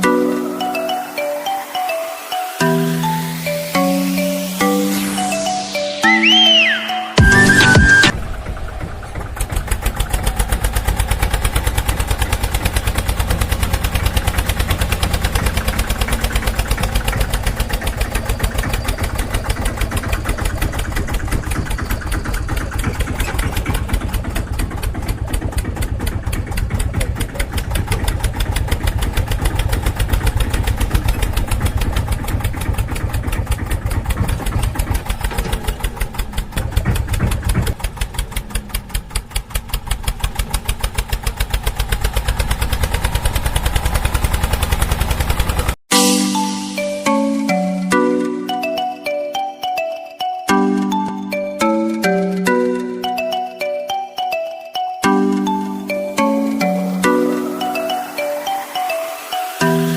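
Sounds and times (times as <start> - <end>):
tractor diesel engine running: 0.0 - 49.4, 50.5 - 54.1, 55.0 - 59.9.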